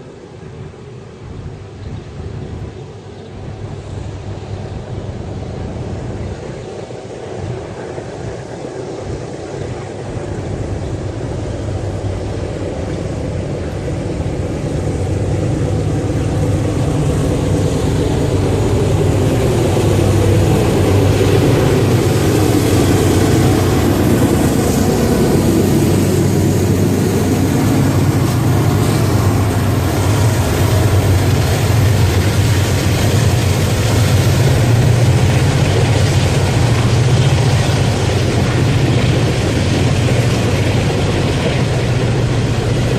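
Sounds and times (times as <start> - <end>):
diesel locomotive engine drone: 0.0 - 42.9
train wheel and rail noise: 0.0 - 42.9.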